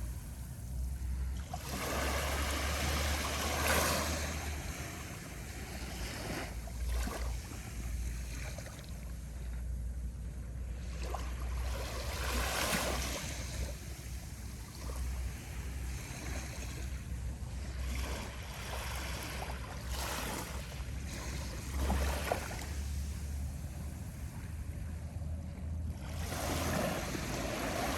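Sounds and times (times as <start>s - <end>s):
steady low rumble: 0.0s - 12.3s, 13.0s - 27.9s
small waves washing up beach: 0.0s - 27.9s.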